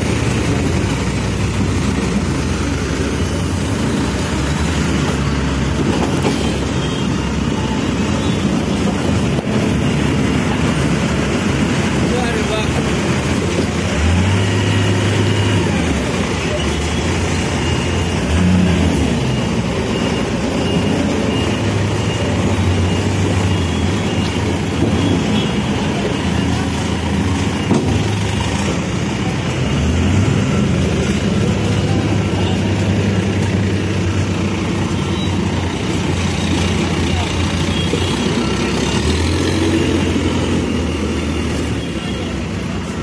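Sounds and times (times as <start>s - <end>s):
backhoe diesel engine revving: 0.0s - 43.0s.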